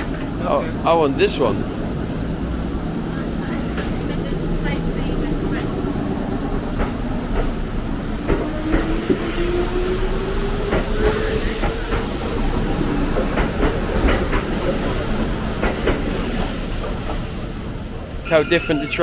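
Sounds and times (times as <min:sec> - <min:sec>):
electric train motor whine: 0:00.0 - 0:16.4
rail clacks: 0:00.0 - 0:19.0
wheels rumbling on rail: 0:00.0 - 0:19.0.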